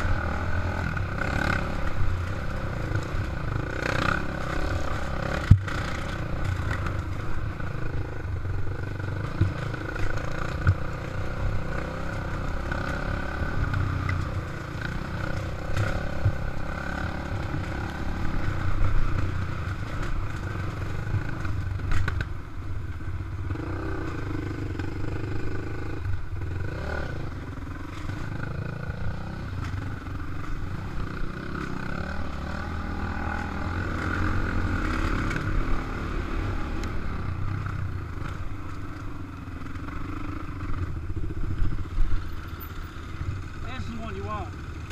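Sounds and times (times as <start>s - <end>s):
dirt bike engine: 0.0s - 44.9s.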